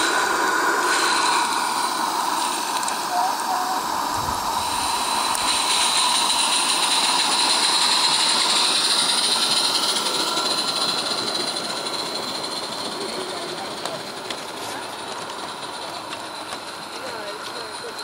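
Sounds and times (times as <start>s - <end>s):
model trains hissing: 0.0s - 18.0s.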